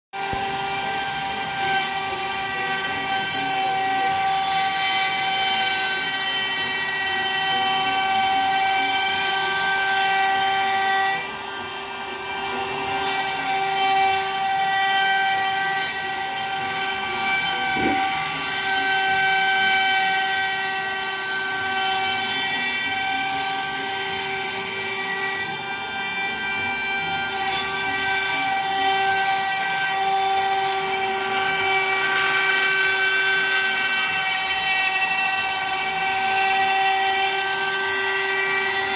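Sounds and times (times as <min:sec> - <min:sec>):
router spindle high whine: 0:00.2 - 0:38.9.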